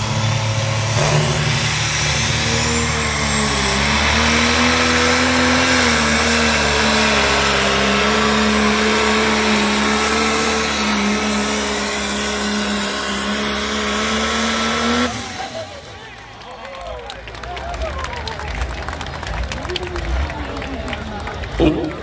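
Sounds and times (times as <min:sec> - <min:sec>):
diesel tractor engine droning: 0:00.0 - 0:22.0.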